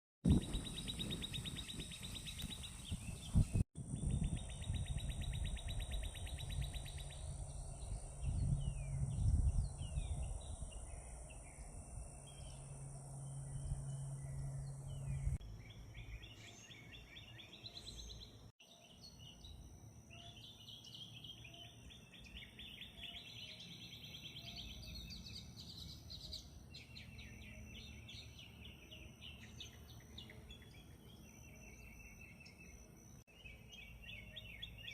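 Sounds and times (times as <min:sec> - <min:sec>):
songbirds singing: 0:00.3 - 0:34.9.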